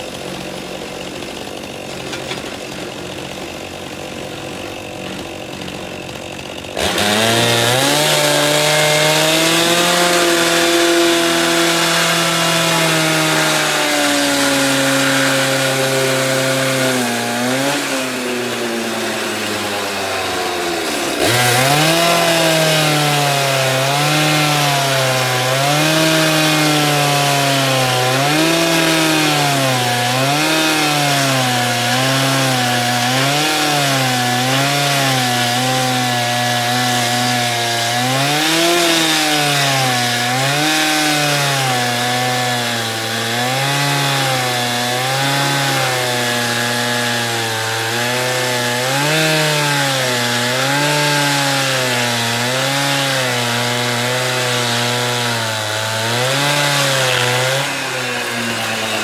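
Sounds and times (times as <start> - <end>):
chainsaw cutting a log: 0.0 - 59.0.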